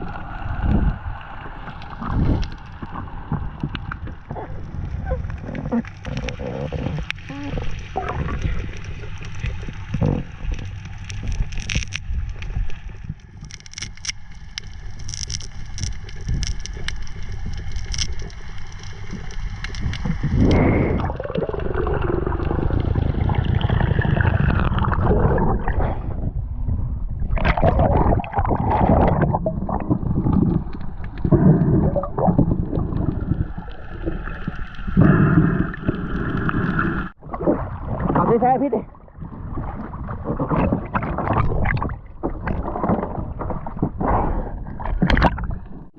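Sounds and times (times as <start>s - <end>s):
water gurgling and sloshing: 0.0s - 45.9s.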